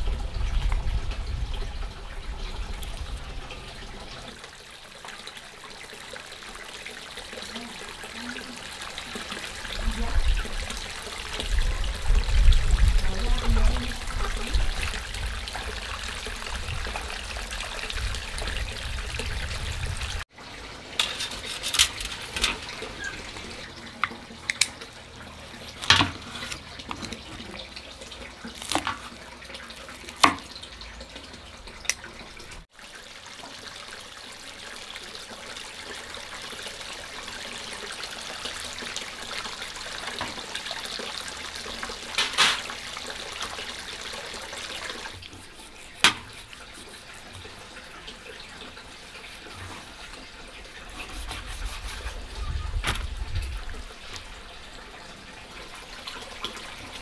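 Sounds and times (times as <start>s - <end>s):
running splashing water: 0.0s - 57.0s.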